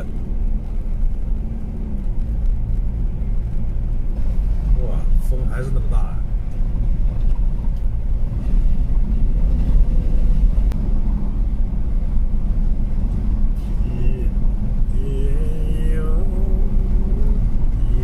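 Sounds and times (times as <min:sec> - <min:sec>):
road noise: 0:00.0 - 0:18.0
vehicle rumble: 0:00.0 - 0:18.0.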